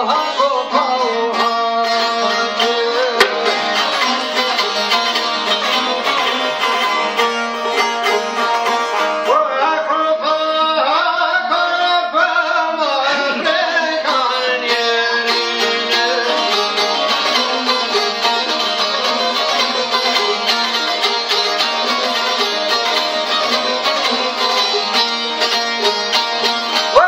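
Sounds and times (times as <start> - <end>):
man singing: 0.0 - 6.9, 9.2 - 25.0
plucked lutes strumming folk music: 0.0 - 10.9, 12.4 - 27.0.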